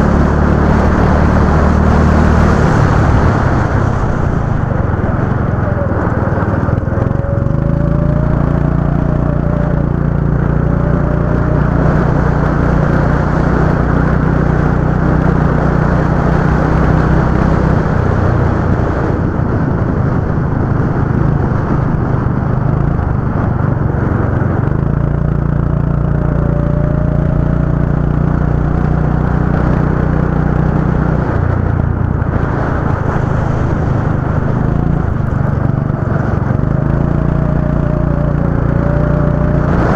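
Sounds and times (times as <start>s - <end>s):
go-kart engine running: 0.0s - 39.9s
thin rising whine: 0.0s - 39.9s.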